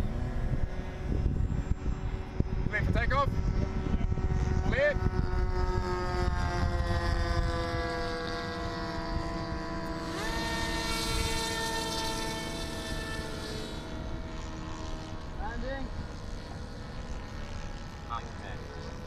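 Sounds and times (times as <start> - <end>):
model airplane motor whining: 0.0 - 19.0
propeller wash rushing: 0.0 - 19.0.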